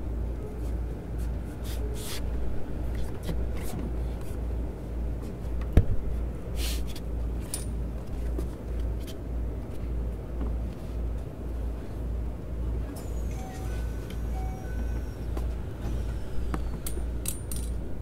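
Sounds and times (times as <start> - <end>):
low pulsing train hum: 0.0 - 18.0.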